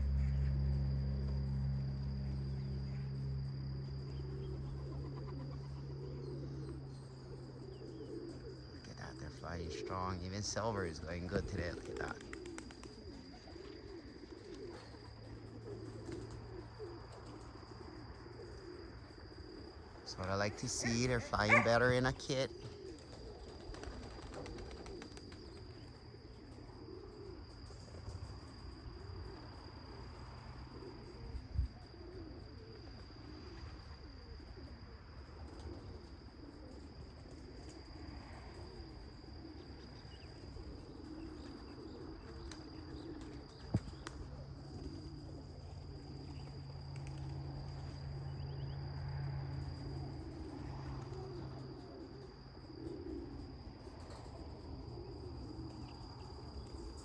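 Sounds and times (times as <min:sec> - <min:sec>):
cricket trill: 0:00.0 - 0:57.0
pigeons cooing: 0:00.0 - 0:57.0.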